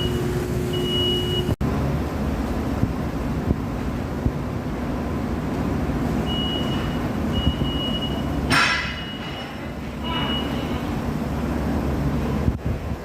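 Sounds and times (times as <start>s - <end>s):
refrigeration machinery humming: 0.0s - 13.0s.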